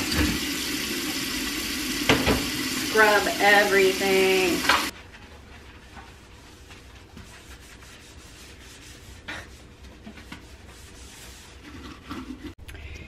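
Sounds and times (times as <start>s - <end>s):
scrubbing at a sink: 0.0s - 12.6s.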